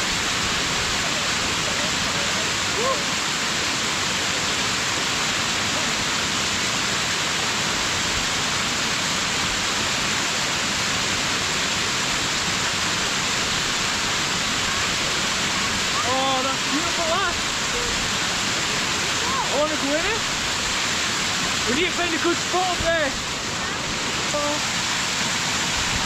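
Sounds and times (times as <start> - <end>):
waterfall rushing over rock: 0.0 - 26.0.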